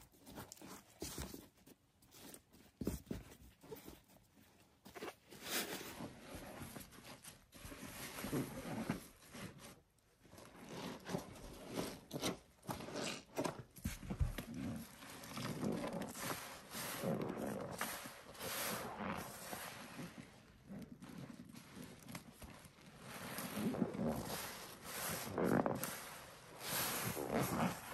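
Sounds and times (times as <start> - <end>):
wet squelching of foamy sponges: 5.5 - 27.9.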